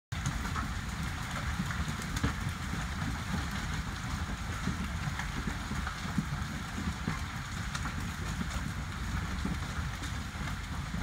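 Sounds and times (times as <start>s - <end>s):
hail pattering: 0.2s - 11.0s.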